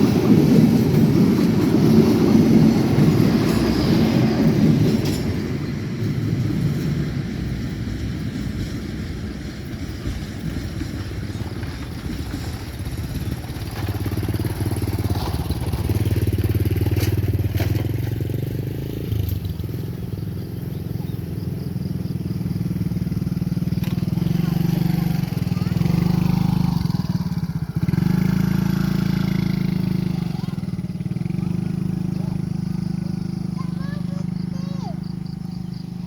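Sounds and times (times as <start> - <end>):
motorcycle engines passing: 0.0 - 9.6, 10.2 - 36.0.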